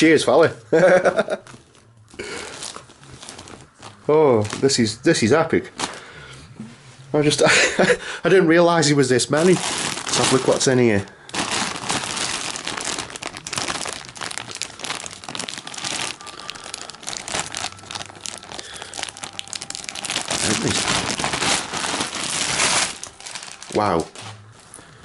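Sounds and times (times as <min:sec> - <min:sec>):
plastic bags crinkling: 0:01.1 - 0:06.1, 0:08.8 - 0:24.9.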